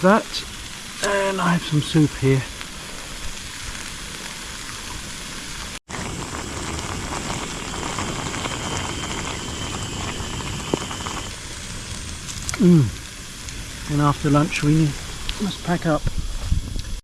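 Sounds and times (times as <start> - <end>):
food sizzling in a pan: 0.0 - 16.7.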